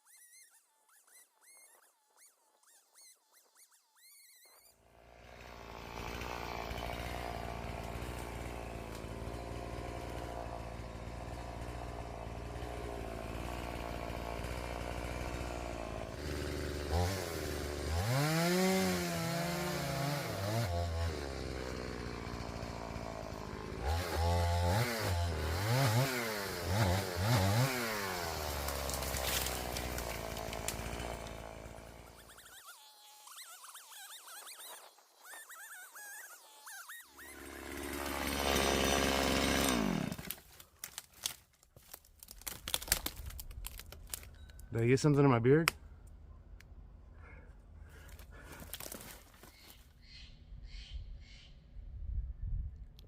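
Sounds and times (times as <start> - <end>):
chainsaw cutting wood: 0.0 - 45.8, 47.3 - 49.8
chainsaw engine idling and revving: 4.8 - 45.8, 46.7 - 49.8.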